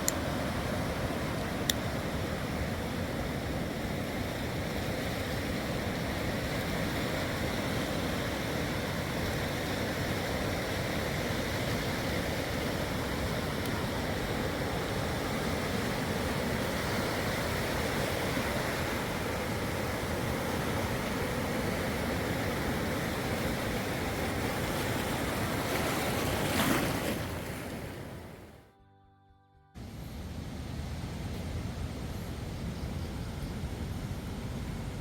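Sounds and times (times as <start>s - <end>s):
waves breaking on shore: 0.0s - 28.6s.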